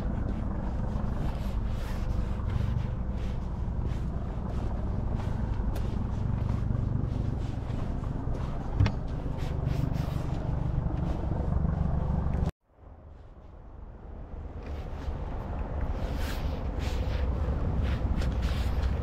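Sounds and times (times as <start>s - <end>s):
engine running: 0.0s - 19.0s
faint rumble: 0.0s - 19.0s.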